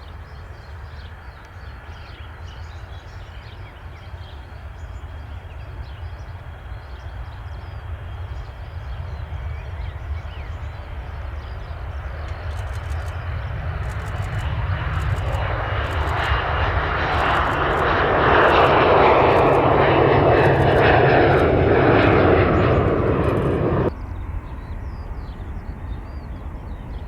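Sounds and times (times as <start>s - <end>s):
jet engines rumbling: 4.3s - 27.0s.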